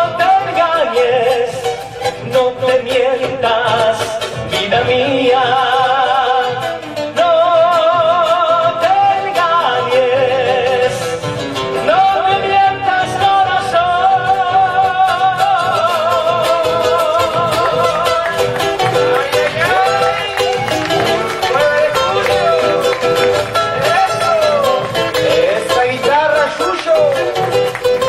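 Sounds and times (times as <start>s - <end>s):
plucked guitar: 0.0s - 28.0s.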